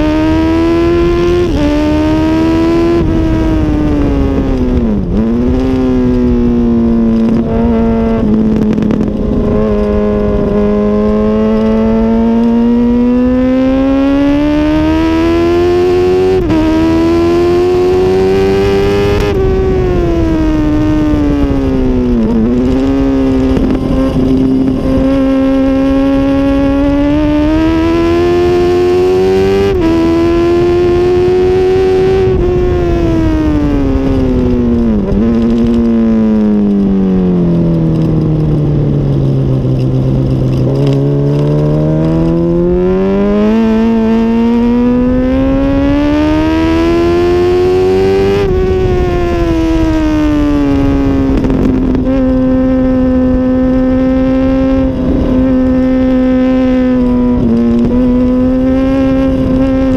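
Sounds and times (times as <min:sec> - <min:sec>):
motorcycle engine at race pace: 0:00.0 - 0:59.9.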